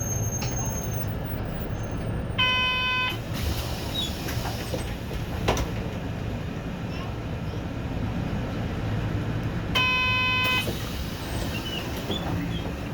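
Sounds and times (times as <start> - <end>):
bus engine idling: 0.0 - 12.9.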